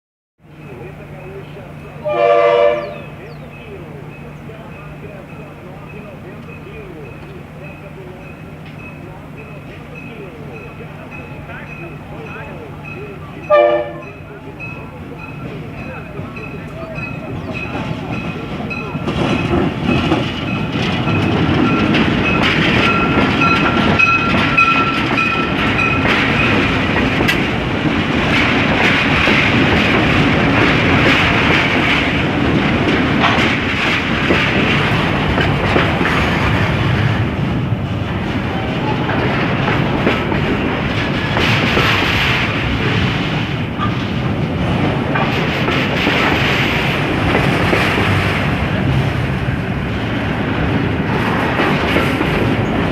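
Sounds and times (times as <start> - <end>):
freight train wagons clattering: 0.4 - 52.9.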